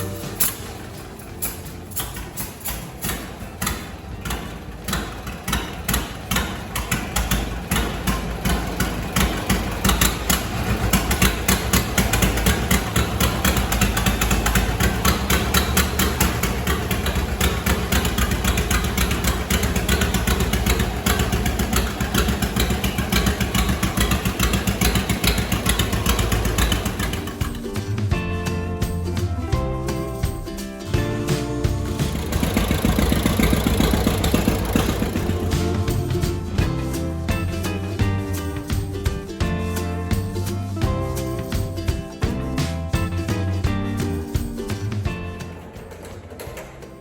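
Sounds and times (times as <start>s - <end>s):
tractor engine popping exhaust: 0.0s - 47.0s.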